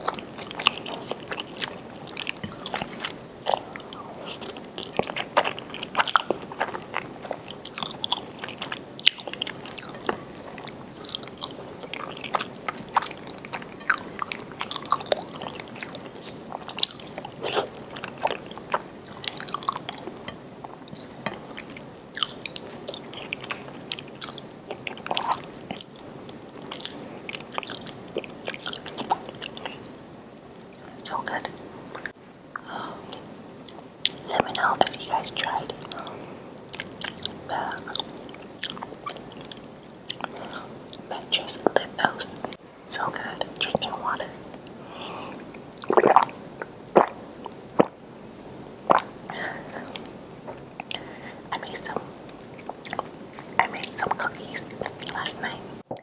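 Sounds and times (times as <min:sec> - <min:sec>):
person chewing food: 0:00.0 - 0:42.6, 0:43.5 - 0:56.0.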